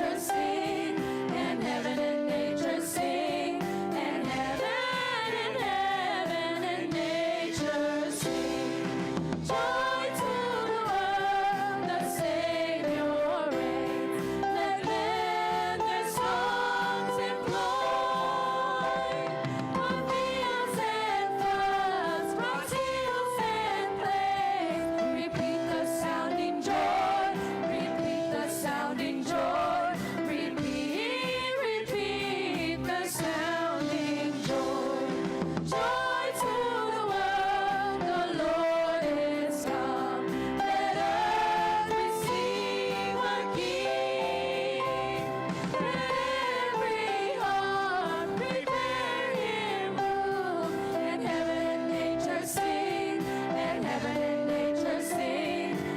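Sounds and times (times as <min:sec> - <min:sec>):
children's choir singing: 0:00.0 - 0:55.9
instrumental accompaniment: 0:00.0 - 0:55.9.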